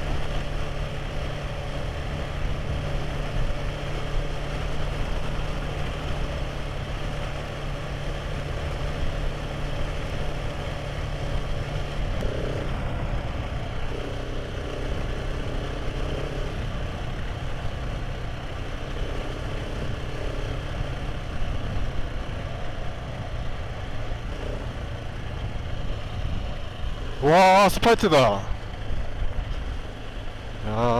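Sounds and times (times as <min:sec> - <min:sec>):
wind and road noise: 0:00.0 - 0:30.9.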